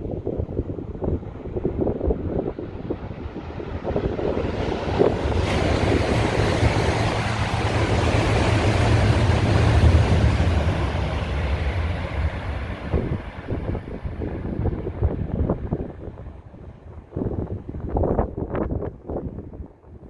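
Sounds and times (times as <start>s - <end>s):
high-speed train passing: 0.0s - 20.0s.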